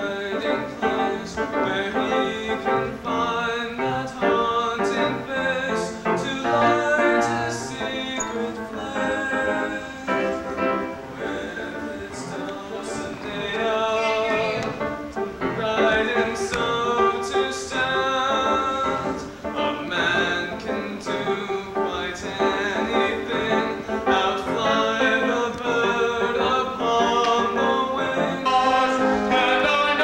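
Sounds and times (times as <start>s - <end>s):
instrumental backing music: 0.0s - 30.0s
people singing: 0.0s - 30.0s.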